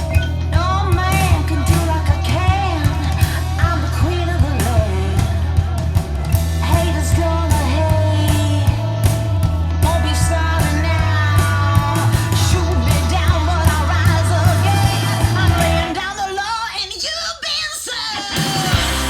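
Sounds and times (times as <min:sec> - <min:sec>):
rock song over loudspeaker: 0:00.0 - 0:19.0.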